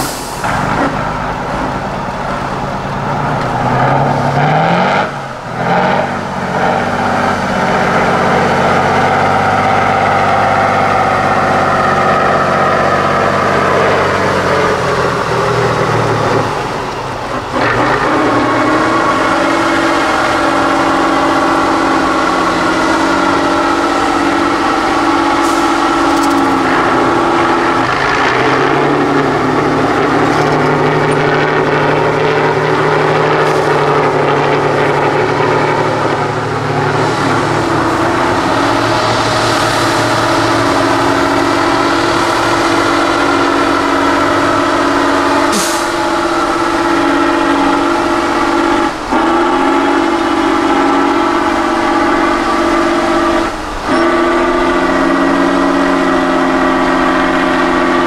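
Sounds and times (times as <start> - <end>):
truck diesel engine at high revs: 0.0 - 58.0.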